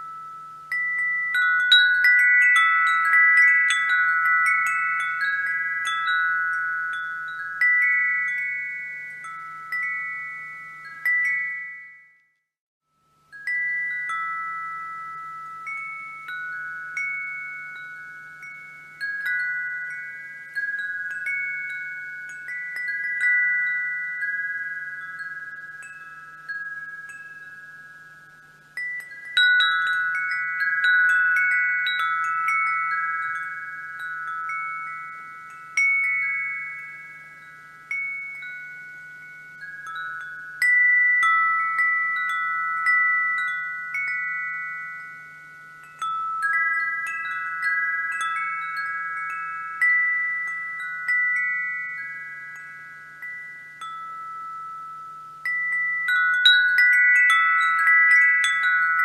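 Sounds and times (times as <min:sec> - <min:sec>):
wind chimes ringing: 0:00.0 - 0:59.0.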